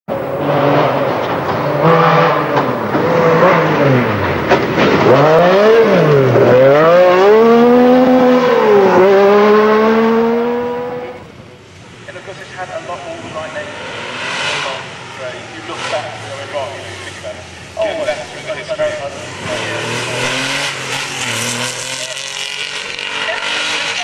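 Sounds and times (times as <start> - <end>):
rally car engine at full throttle: 0.1 - 24.0.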